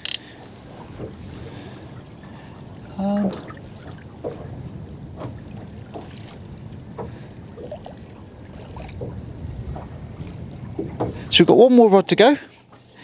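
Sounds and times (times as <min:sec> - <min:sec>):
waves slapping boat hull: 0:00.0 - 0:13.0
wind rumble on microphone: 0:00.4 - 0:11.5.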